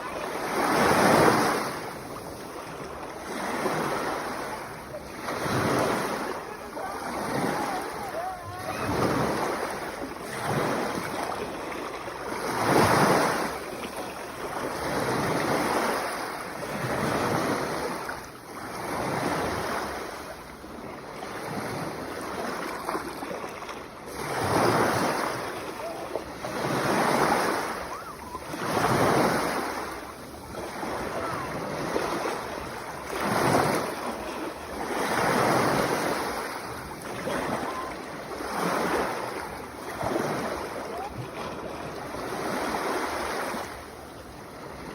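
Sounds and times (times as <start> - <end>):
sea waves breaking: 0.0 - 44.9.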